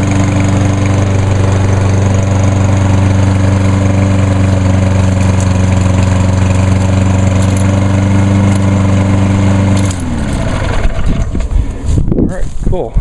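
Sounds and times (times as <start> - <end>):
lawn mower engine running: 0.0 - 12.1.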